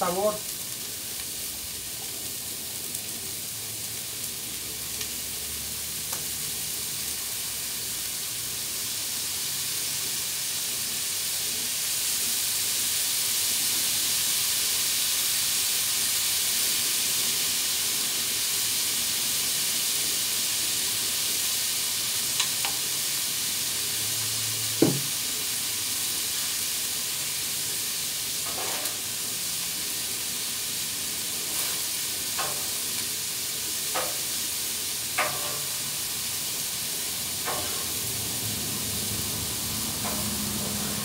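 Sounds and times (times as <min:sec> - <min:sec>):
food sizzling on a griddle: 0:00.0 - 0:41.0.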